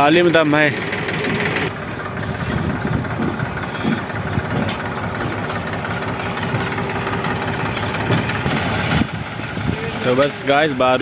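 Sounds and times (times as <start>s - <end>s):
tractor diesel engine knocking: 0.0s - 11.0s.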